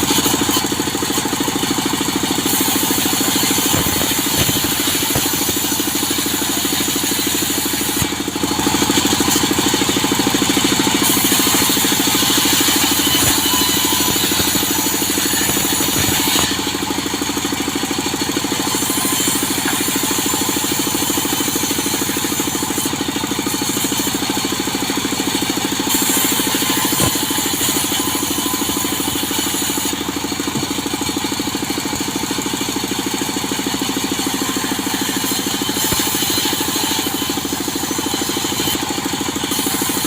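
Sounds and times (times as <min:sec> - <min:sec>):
engine-driven saw cutting wood: 0:00.0 - 0:40.0.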